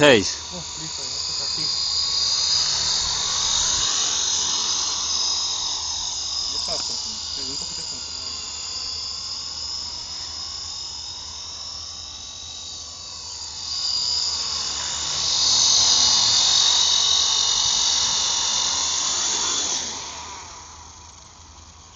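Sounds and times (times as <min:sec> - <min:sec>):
toy aircraft motor whining: 0:00.0 - 0:21.9.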